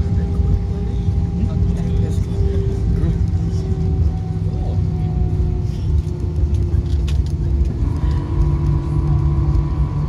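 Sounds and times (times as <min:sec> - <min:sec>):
aircraft engines and wheels rumbling: 0:00.0 - 0:10.0
steady hums: 0:00.0 - 0:10.0.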